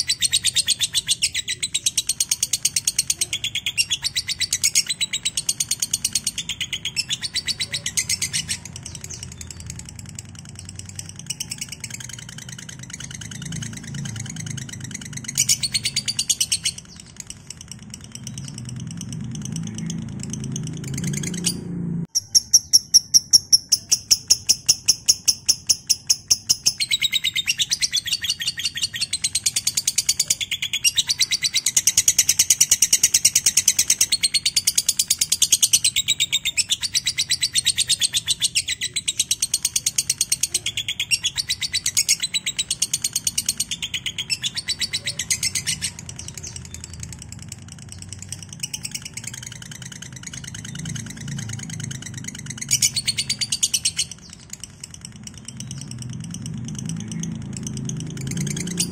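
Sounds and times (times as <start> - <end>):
lovebird chattering trill: 0.0 - 58.9.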